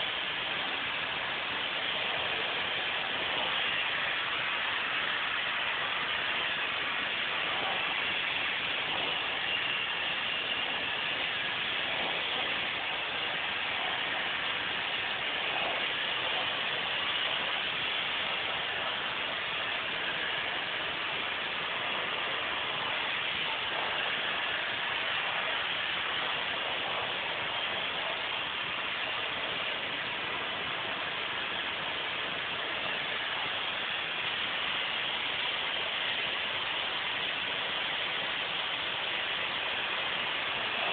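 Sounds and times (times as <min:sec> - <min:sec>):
spray booth air rushing: 0:00.0 - 0:40.9.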